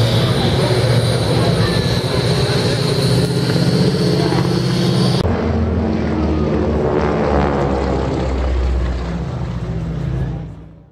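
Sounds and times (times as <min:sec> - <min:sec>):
propeller plane engines droning: 0:00.0 - 0:10.9.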